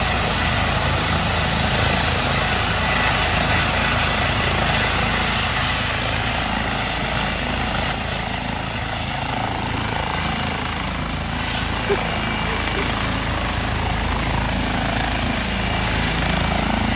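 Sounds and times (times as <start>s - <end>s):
aircraft engine drone: 0.0s - 16.9s.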